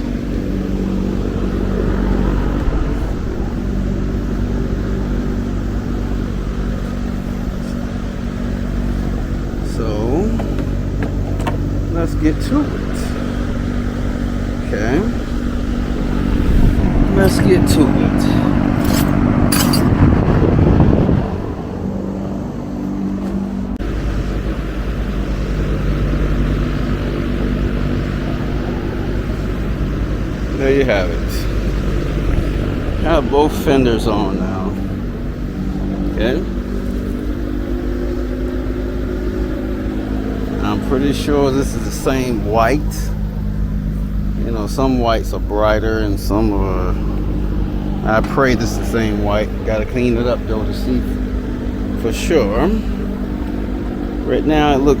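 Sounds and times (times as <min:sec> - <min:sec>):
electric fan humming: 0:00.0 - 0:55.0.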